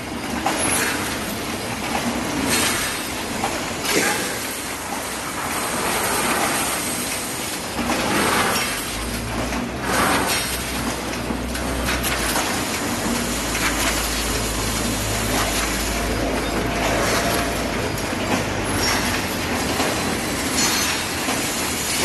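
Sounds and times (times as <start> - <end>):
welding machine clattering: 0.0 - 22.0.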